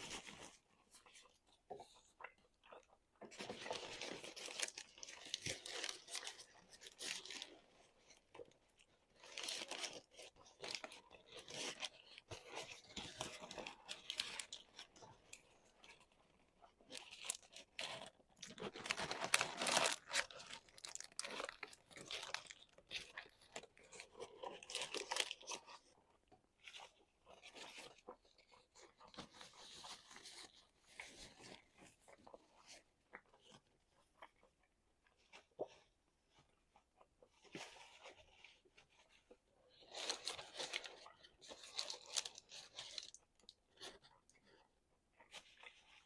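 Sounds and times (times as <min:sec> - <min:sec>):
food crunching while chewed: 0:00.0 - 0:35.9, 0:39.2 - 0:44.6.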